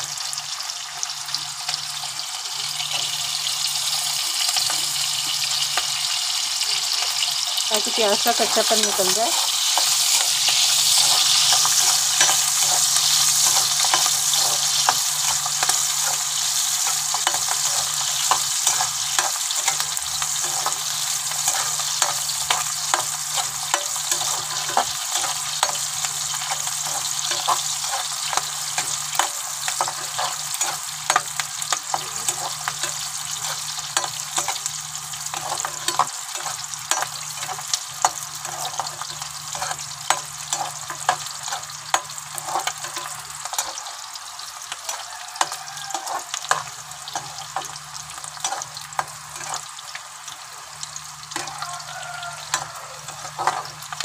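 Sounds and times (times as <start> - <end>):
oil crackling and popping: 0.0 - 54.0
onions sizzling in hot oil: 0.0 - 54.0.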